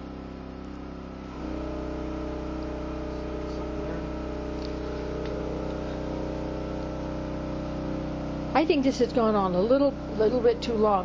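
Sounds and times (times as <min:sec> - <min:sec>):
generator engine hum: 0:00.0 - 0:11.0.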